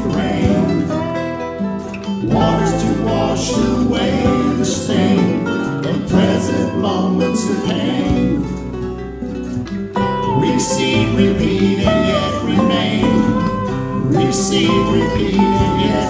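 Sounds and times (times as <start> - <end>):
song with acoustic guitar: 0.0 - 16.0.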